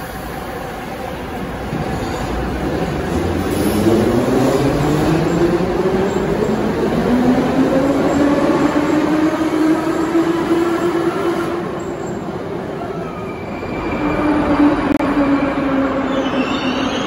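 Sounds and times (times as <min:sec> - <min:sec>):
approaching train whine: 0:00.0 - 0:17.0.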